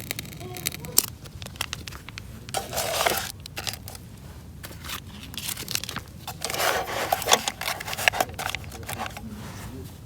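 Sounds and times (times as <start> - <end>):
crinkling and rustling: 0.0 - 10.0.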